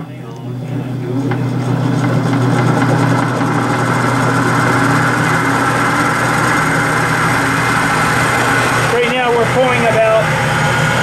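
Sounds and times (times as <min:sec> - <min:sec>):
electrical hum with whir: 0:00.0 - 0:11.0.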